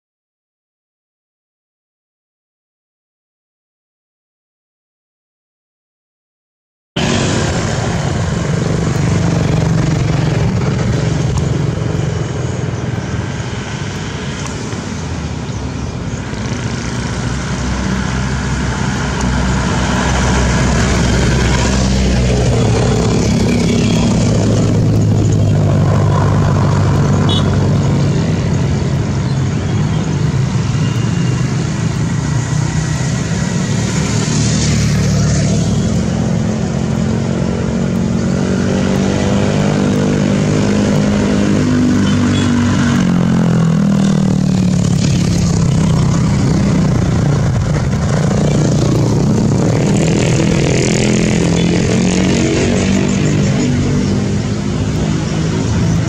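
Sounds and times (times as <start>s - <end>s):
motorbikes passing: 7.0s - 56.0s
truck diesel engine under load: 7.0s - 56.0s.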